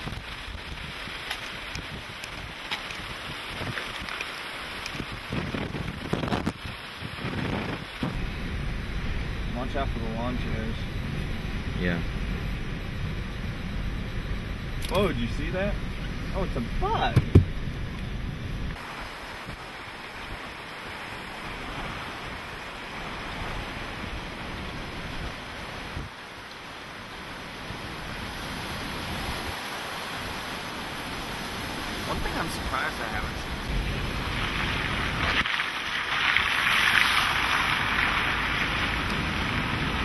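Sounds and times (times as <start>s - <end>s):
wind buffeting on microphone: 0.0s - 26.2s, 27.2s - 40.0s
hurricane wind hissing: 0.0s - 40.0s
rain: 0.0s - 40.0s.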